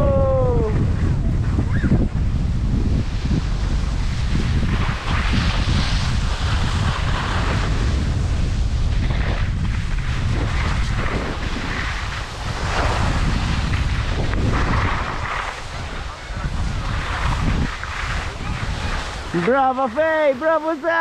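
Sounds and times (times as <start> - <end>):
wind buffeting microphone: 0.0 - 21.0
skis sliding on snow: 2.4 - 21.0.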